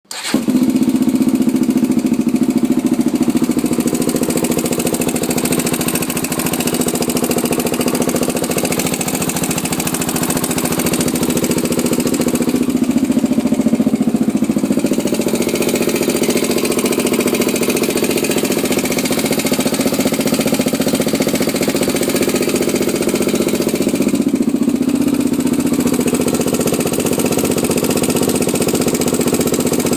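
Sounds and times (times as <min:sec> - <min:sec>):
engine idling with ticking: 0:01.7 - 0:29.9.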